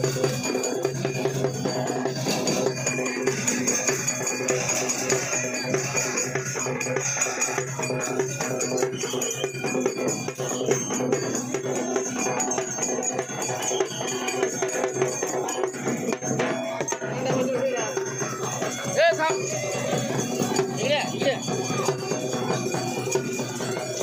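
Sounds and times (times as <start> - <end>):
music with percussion and held tones: 0.0 - 24.0.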